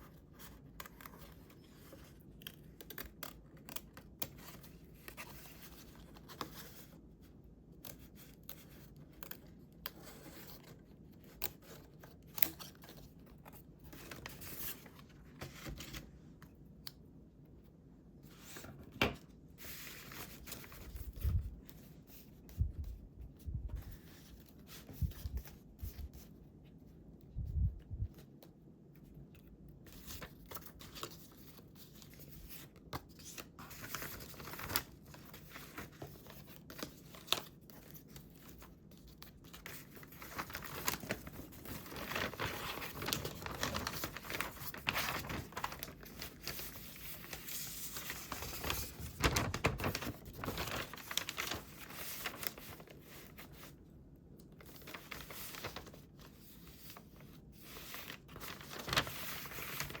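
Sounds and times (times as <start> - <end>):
paper crinkling and rustling: 0.0 - 17.1, 18.1 - 60.0.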